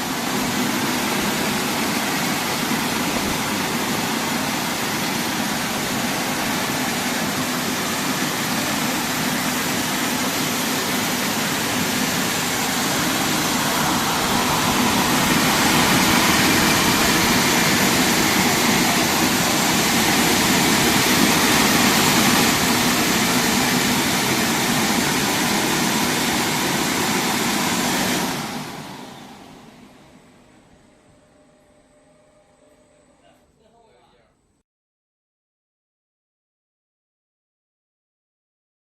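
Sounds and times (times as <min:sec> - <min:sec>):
car wash machine running: 0:00.0 - 0:33.3.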